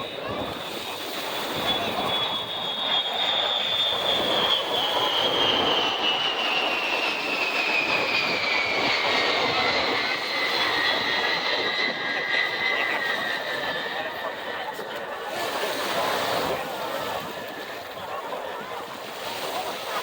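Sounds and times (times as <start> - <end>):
jet bomber flying past: 0.0 - 20.0.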